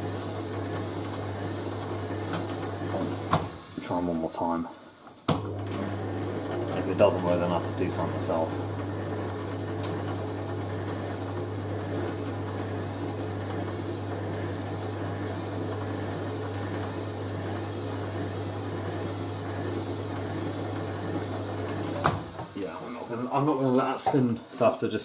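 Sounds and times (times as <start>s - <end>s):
washing machine drum humming: 0.0s - 4.6s, 5.2s - 24.7s.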